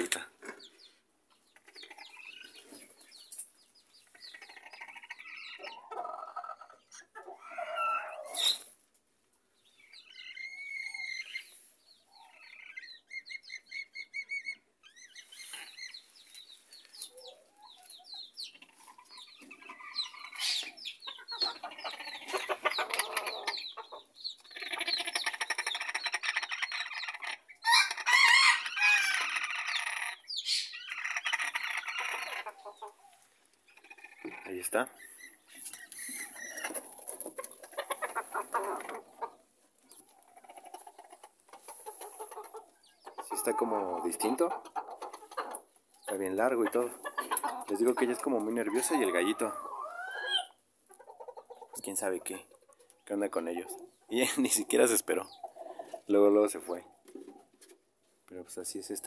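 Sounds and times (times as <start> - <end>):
chickens clucking and cackling: 0.0 - 59.0.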